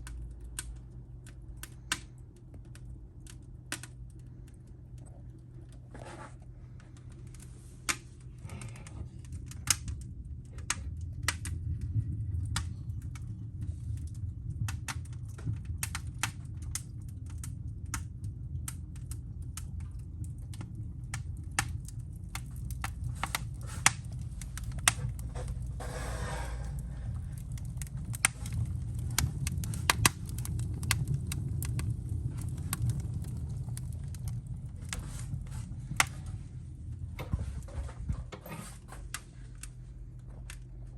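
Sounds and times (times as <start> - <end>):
flames rumbling: 0.0 - 40.9
logs crackling and popping: 0.0 - 40.9.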